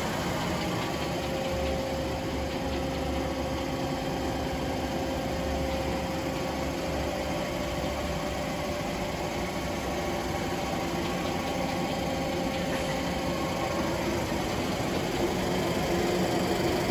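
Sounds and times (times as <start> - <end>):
lathe humming: 0.0 - 16.9.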